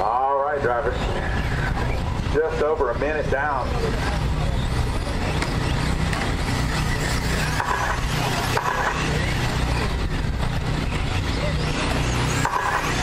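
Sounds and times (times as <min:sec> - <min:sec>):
radio-controlled trucks racing: 0:00.0 - 0:13.0.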